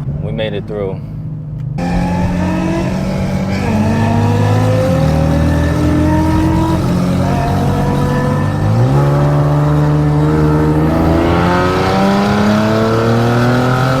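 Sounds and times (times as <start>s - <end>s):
car engine and exhaust accelerating: 1.2s - 14.0s.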